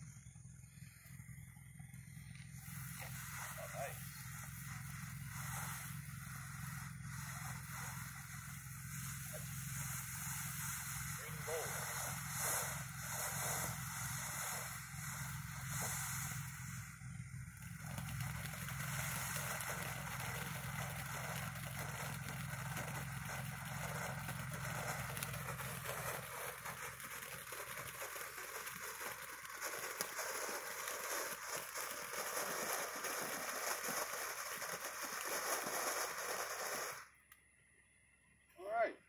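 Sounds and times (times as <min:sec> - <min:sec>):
firework crackling: 0:00.0 - 0:37.7
firework fountain hissing: 0:00.0 - 0:39.0.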